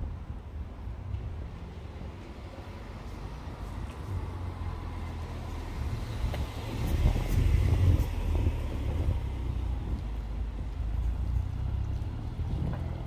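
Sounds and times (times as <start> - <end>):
street noise: 0.0 - 13.0
car passing: 1.4 - 13.0.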